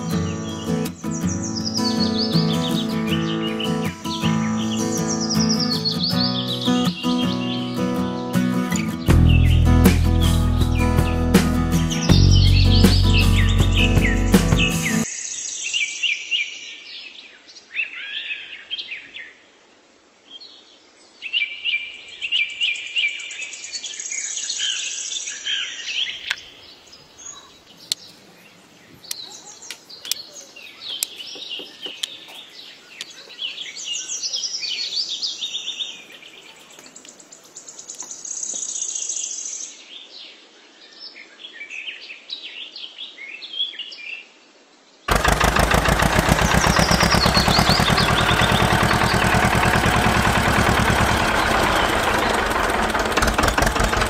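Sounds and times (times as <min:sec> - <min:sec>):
small birds chirping: 0:00.0 - 0:19.1, 0:20.4 - 0:44.2, 0:45.1 - 0:54.0.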